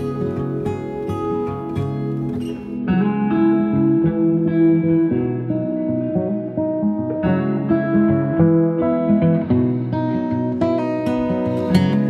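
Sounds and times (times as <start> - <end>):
guitar plucking notes: 0.0 - 12.0.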